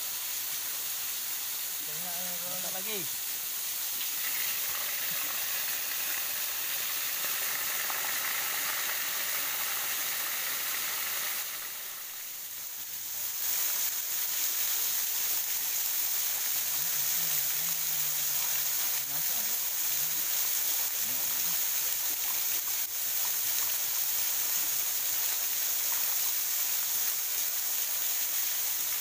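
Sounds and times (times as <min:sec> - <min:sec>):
fish sizzling in oil: 0:00.0 - 0:29.0.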